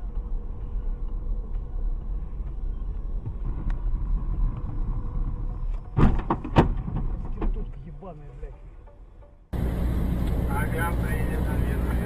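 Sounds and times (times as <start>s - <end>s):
car driving low rumble: 0.0s - 12.0s.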